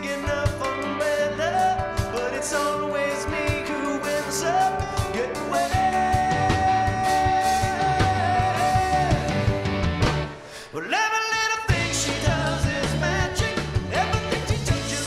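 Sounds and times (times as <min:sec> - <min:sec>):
man singing: 0:00.0 - 0:09.8, 0:10.6 - 0:15.0
live rock band playing: 0:00.0 - 0:10.6, 0:11.7 - 0:15.0.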